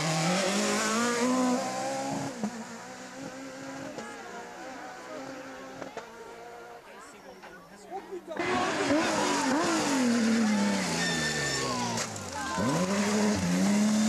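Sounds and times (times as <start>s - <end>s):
rally car engine revving: 0.0s - 6.9s, 8.4s - 14.0s.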